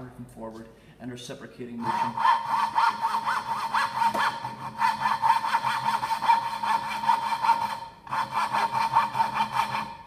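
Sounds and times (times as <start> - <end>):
coping saw cutting wood: 1.8 - 9.9.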